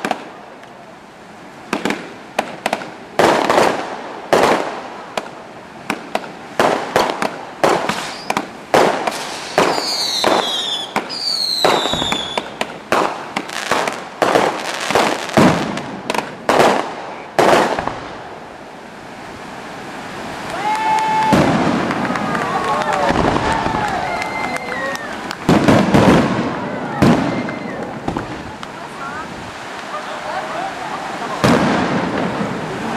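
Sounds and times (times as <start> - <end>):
firework bangs: 0.0 - 0.5, 1.7 - 18.5, 20.0 - 30.0, 31.2 - 32.9
whistling fireworks: 1.7 - 5.3, 5.9 - 18.3, 20.4 - 29.2, 31.2 - 32.9.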